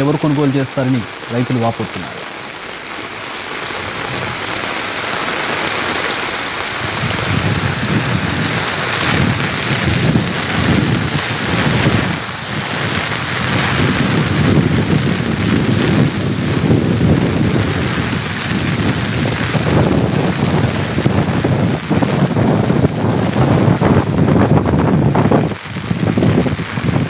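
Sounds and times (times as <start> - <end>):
steady rain hiss: 0.0 - 27.0
wind gusts on microphone: 0.0 - 27.0.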